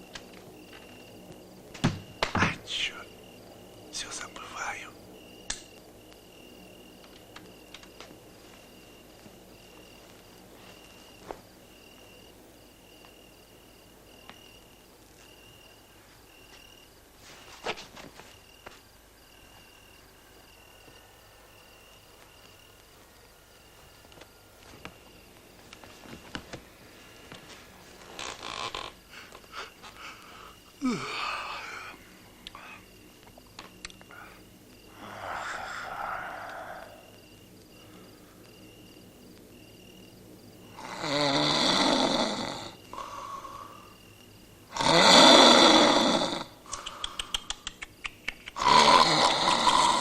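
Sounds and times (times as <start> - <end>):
cricket chirping: 0.0 - 50.0.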